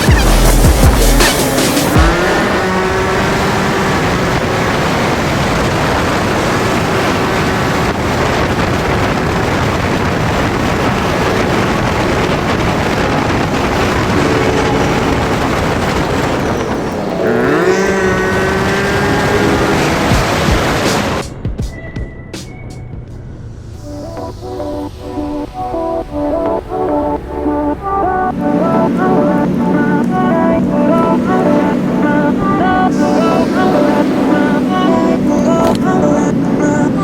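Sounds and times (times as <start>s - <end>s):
engine running and revving: 0.0s - 21.4s, 23.3s - 37.0s.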